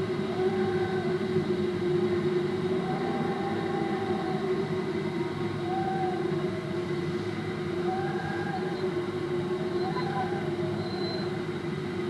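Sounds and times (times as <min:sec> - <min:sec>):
howling wind: 0:00.0 - 0:12.0.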